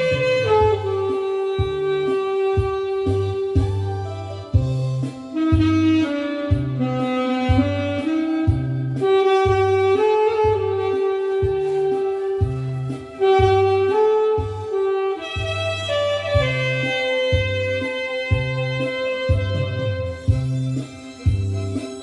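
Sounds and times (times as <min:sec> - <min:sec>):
backing track bass beat: 0:00.0 - 0:22.0
saxophone melody: 0:00.0 - 0:22.0.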